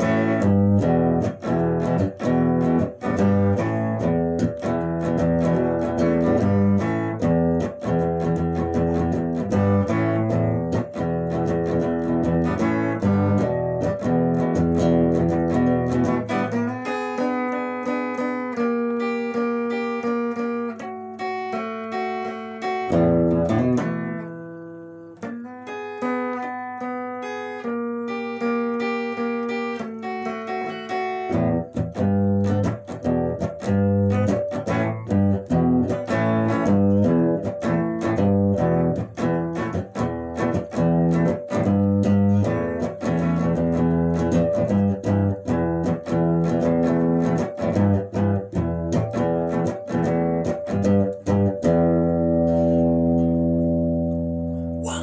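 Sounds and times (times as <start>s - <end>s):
electric guitar chords and riff: 0.0s - 55.0s.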